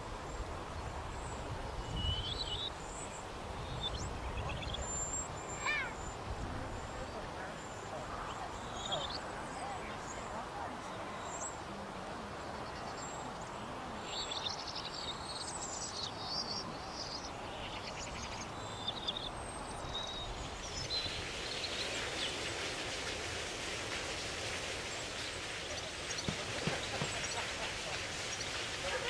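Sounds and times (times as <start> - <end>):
dense high hiss: 0.0 - 29.0
small birds chirping: 0.0 - 29.0
steady background hiss: 0.0 - 29.0.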